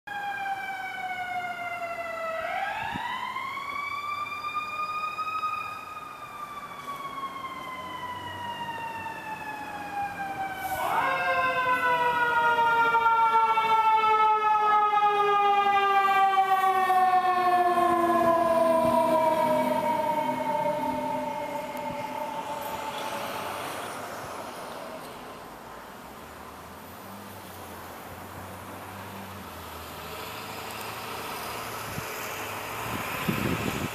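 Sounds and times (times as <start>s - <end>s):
fire engine siren wailing: 0.1s - 26.0s, 28.3s - 33.9s.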